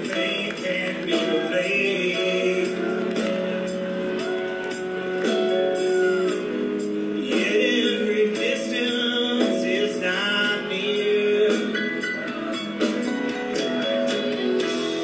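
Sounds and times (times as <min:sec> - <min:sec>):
live rock band music: 0:00.0 - 0:15.0
person singing: 0:00.0 - 0:15.0.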